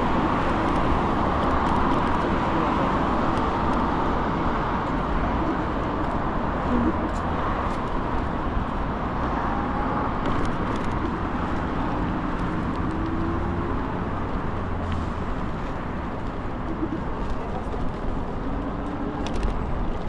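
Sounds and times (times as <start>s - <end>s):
road noise: 0.0s - 20.0s
rushing wind: 0.0s - 20.0s.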